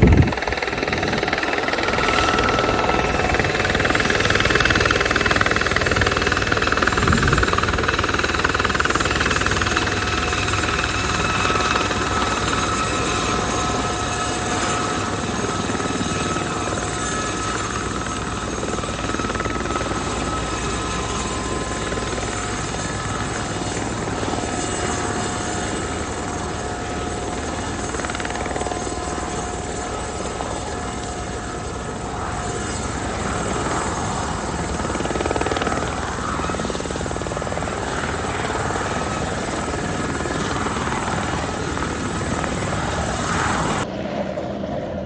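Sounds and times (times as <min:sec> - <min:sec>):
high whining tones: 0:00.0 - 0:43.9
helicopter turbine and rotors roaring: 0:00.0 - 0:45.0.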